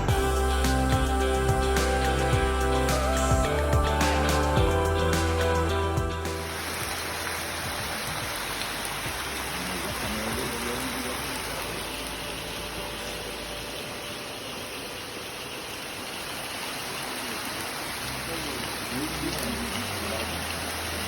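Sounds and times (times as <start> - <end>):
water running over rocks: 0.0 - 21.0.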